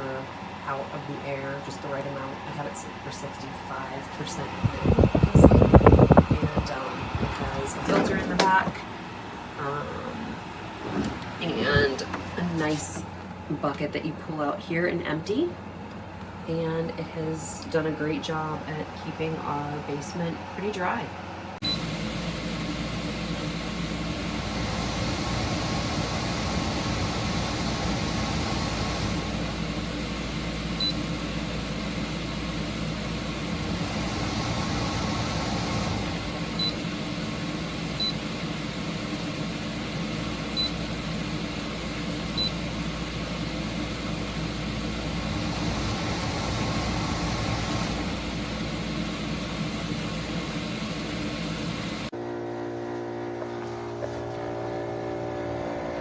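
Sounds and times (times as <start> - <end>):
dehumidifier humming and whooshing: 0.0 - 56.0.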